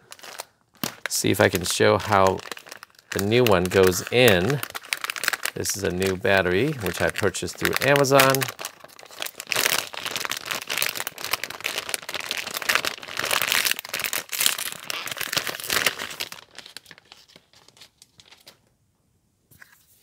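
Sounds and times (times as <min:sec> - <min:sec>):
metallic plastic bag crinkling: 0:00.0 - 0:18.6.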